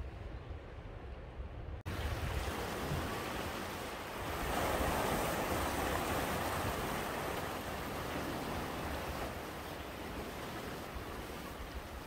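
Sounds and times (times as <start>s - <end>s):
wind rumble on microphone: 0.0s - 12.0s
waves breaking against rocks: 2.1s - 12.0s.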